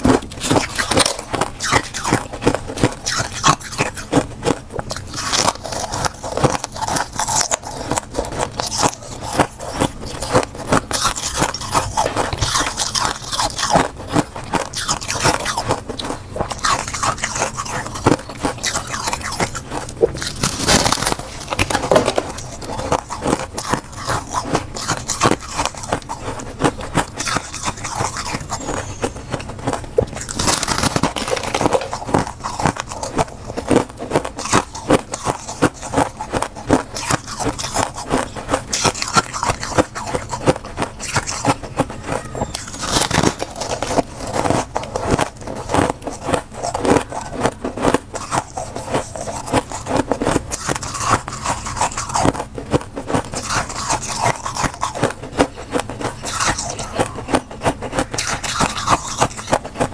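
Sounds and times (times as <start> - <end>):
crunchy chewing: 0.0 - 59.9.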